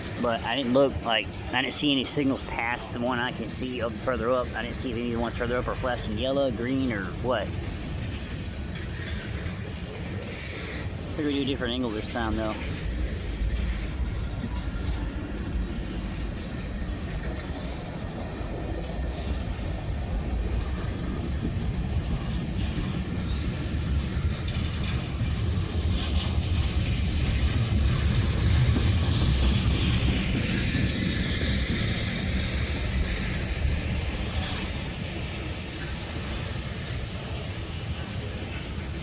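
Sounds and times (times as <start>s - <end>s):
freight train rumbling: 0.0s - 39.0s.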